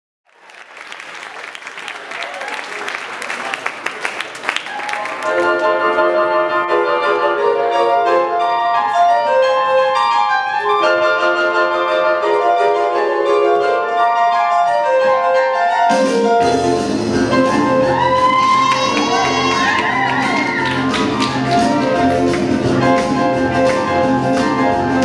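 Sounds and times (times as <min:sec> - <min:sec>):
boogie-woogie piano music: 0:04.7 - 0:25.0.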